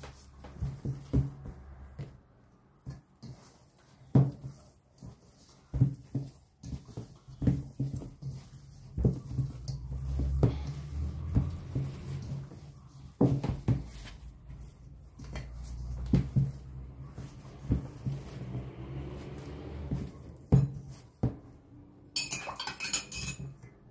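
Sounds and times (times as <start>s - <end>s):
hands kneading dough in a bowl: 0.0s - 23.9s.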